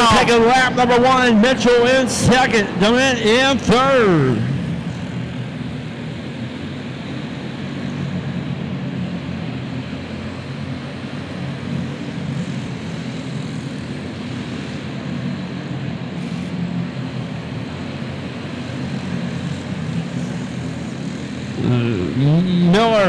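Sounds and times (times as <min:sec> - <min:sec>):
racing kart engines droning: 0:00.0 - 0:23.0.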